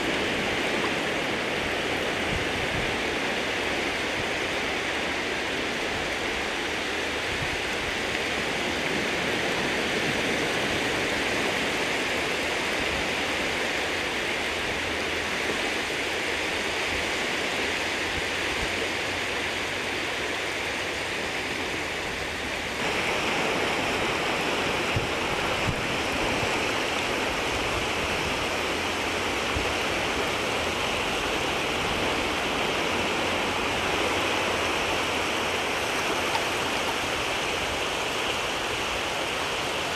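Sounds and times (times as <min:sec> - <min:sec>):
water rippling at shore: 0:00.0 - 0:39.9.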